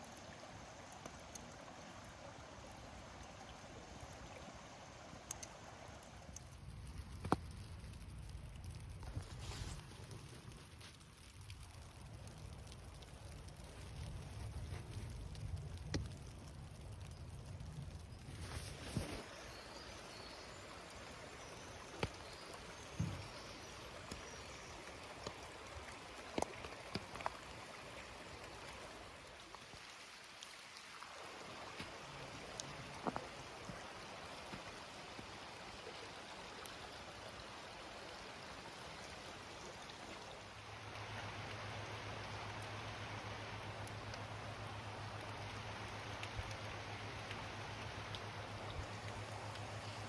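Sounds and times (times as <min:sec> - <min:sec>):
water dripping: 0:00.0 - 0:50.0.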